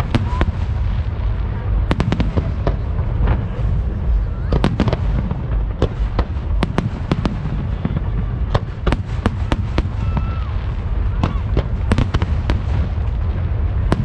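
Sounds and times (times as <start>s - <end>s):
fireworks bangs: 0.0s - 14.0s
low rumble: 0.0s - 14.0s.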